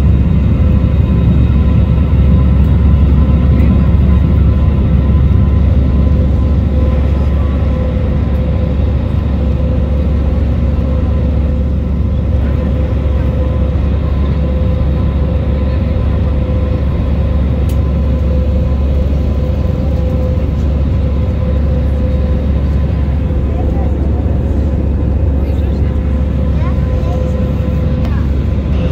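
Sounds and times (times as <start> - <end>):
constant hum: 0.0 - 28.9
jet engine rumble: 0.0 - 28.9.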